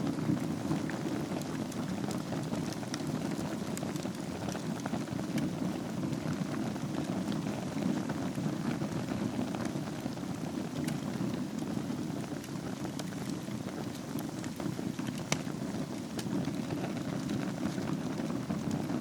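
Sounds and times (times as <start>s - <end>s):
fire crackles and pops: 0.0s - 19.0s
fire rumbling: 0.0s - 19.0s.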